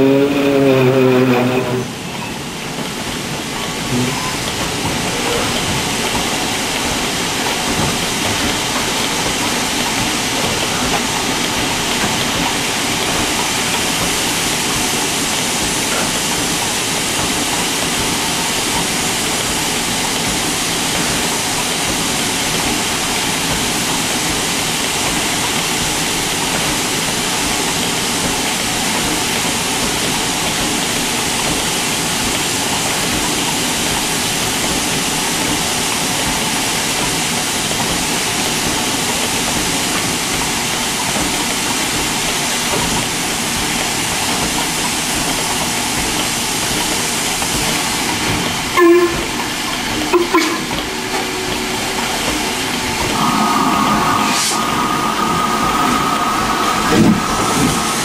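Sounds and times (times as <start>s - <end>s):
steam hissing from safety valves: 0.0s - 58.0s.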